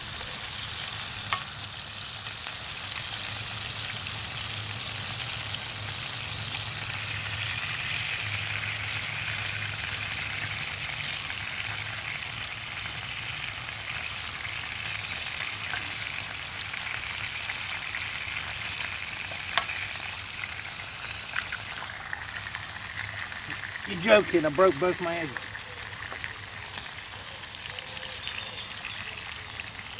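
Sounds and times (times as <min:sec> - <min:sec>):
bacon and eggs sizzling: 0:00.0 - 0:29.9.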